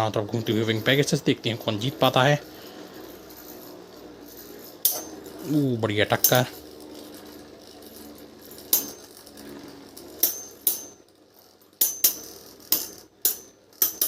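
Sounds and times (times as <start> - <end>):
spinning tops clinking: 0.0 - 14.0
whir of spinning tops: 0.0 - 14.0.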